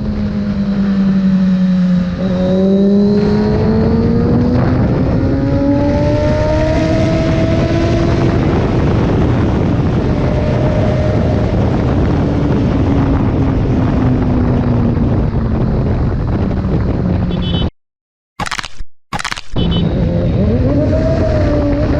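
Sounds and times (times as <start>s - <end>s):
wind rush: 0.0s - 17.6s, 19.6s - 21.9s
motorcycle engine at speed: 0.0s - 17.7s, 19.5s - 21.9s.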